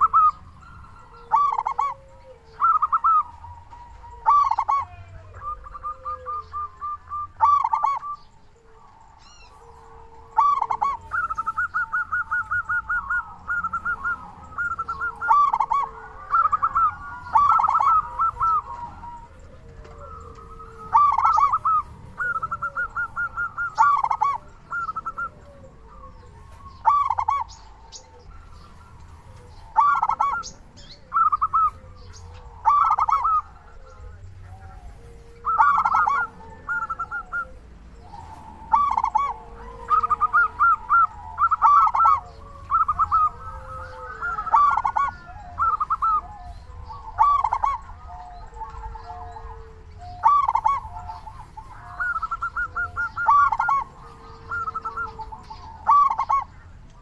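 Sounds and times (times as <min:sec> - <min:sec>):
dove staccato cooing: 0:00.0 - 0:57.0
fainter lower bird calls: 0:00.0 - 0:57.0.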